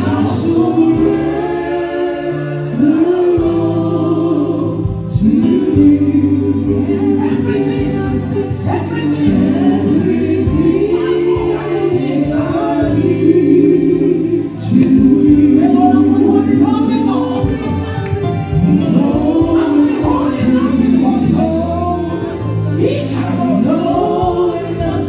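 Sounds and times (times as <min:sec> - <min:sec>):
congregation singing worship song: 0:00.0 - 0:25.0
held accompanying chords: 0:00.0 - 0:25.0.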